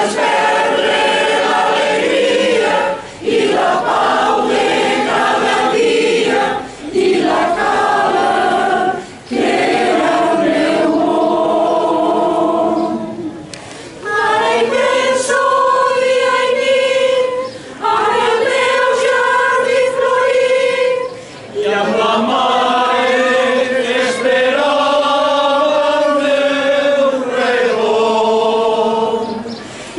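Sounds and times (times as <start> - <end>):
mixed choir singing a cappella: 0.0 - 29.9.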